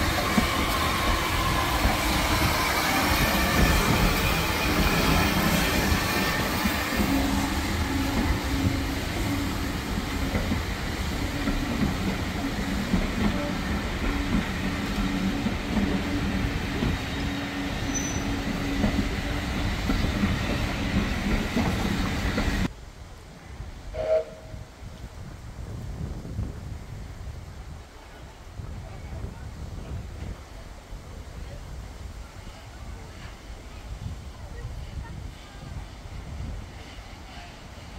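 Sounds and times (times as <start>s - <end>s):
steam hissing: 0.0s - 22.7s, 30.0s - 37.9s.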